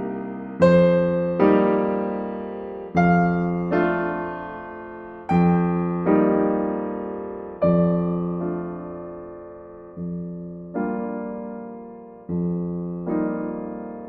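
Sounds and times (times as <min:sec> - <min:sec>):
slow electric piano chords: 0:00.0 - 0:14.0.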